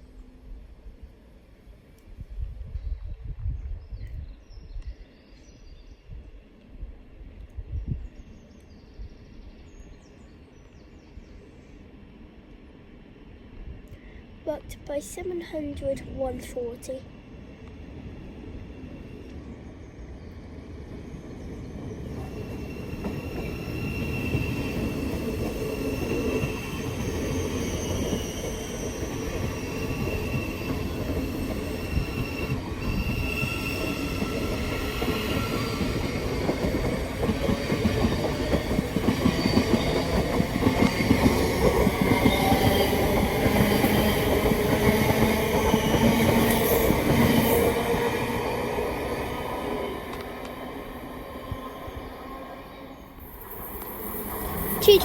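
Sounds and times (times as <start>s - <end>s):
passenger train rumbling on rails: 0.0s - 55.0s.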